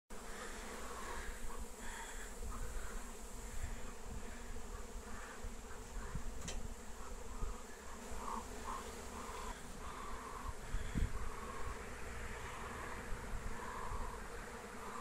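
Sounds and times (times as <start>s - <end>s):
bees buzzing: 0.1s - 15.0s.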